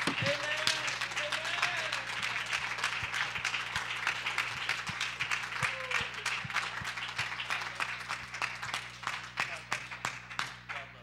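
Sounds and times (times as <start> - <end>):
congregation clapping: 0.0 - 11.0.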